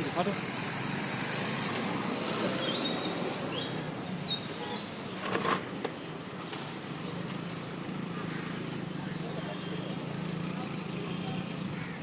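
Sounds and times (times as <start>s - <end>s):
light traffic hum: 0.0s - 12.0s.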